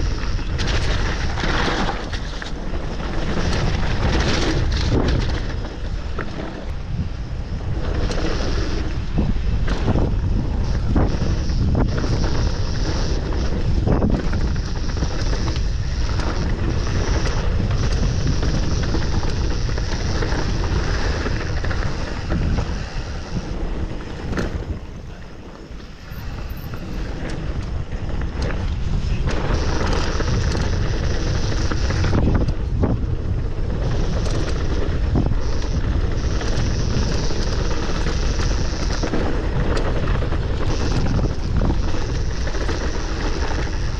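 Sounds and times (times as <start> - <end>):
mountain bike rattling and knocking: 0.0 - 43.9
wind on microphone: 0.0 - 43.9.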